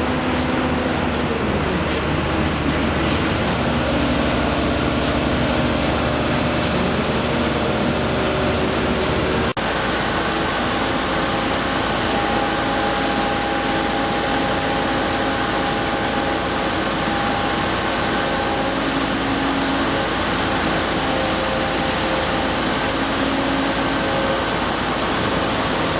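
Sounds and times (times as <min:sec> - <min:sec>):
machinery running: 0:00.0 - 0:25.9.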